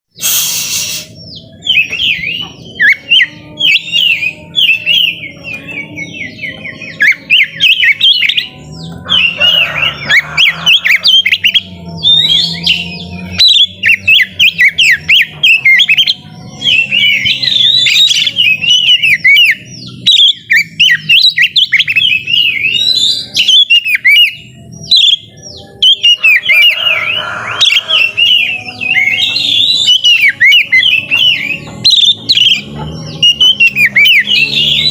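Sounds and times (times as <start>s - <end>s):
magpie-robin singing: 0.2s - 34.9s.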